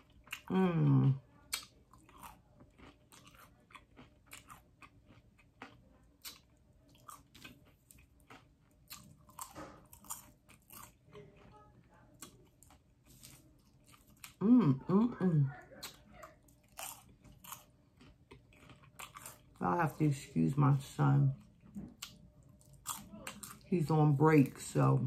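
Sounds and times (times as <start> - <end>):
person crunching popcorn: 0.0 - 14.5, 15.8 - 20.0, 21.4 - 23.9.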